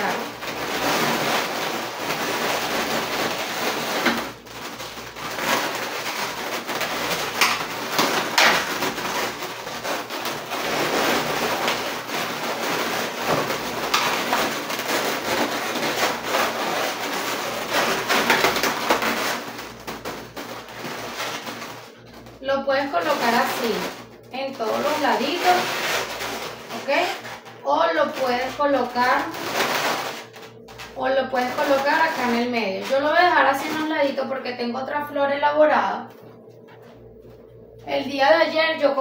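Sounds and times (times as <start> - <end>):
balloons rubbing crackle: 0.0 - 34.3.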